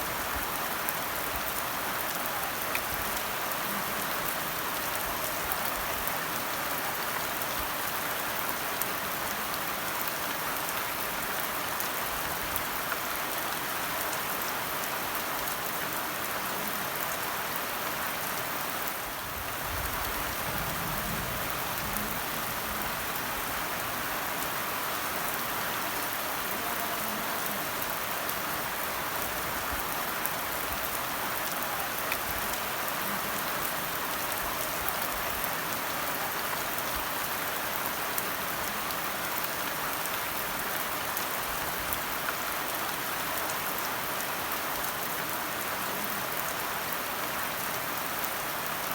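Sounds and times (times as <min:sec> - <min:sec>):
steady rain pattering: 0:00.0 - 0:48.9.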